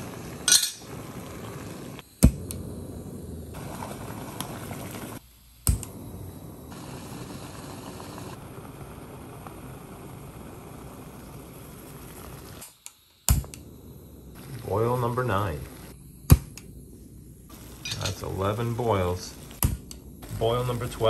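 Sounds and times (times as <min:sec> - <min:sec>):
camping stove hissing: 0:00.0 - 0:21.0.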